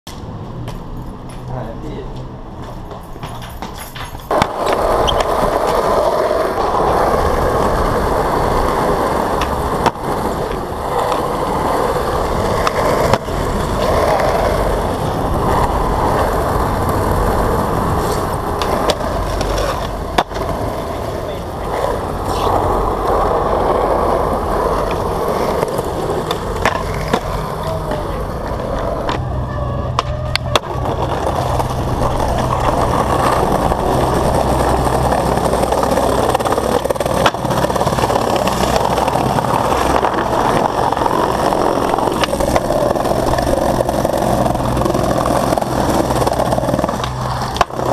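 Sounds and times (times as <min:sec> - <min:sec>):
skateboard wheels rolling on concrete: 0:00.1 - 0:47.9
skateboard wooden clacks: 0:02.2 - 0:29.2, 0:29.9 - 0:47.9.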